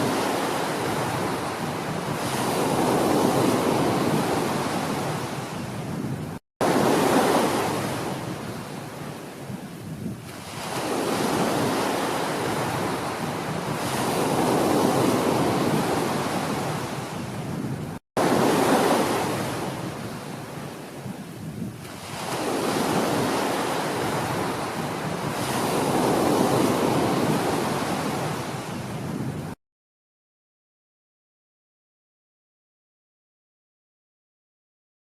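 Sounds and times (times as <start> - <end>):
ocean waves breaking: 0.0 - 29.6.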